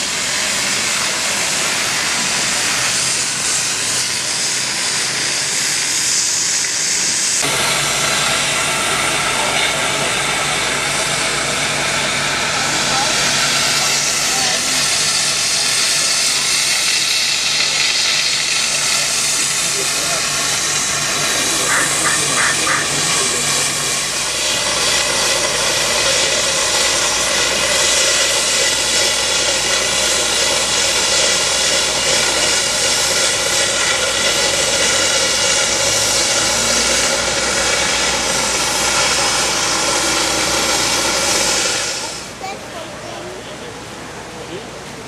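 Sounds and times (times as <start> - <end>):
machine drone with hiss: 0.0 - 42.5.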